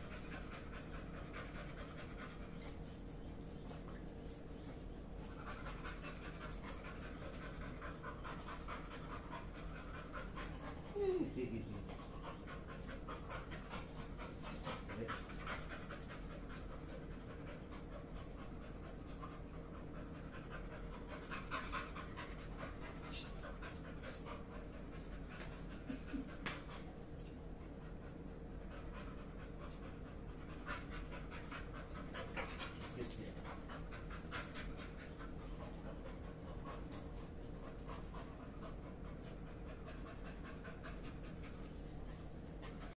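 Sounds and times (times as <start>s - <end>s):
dog panting: 0.0s - 43.0s.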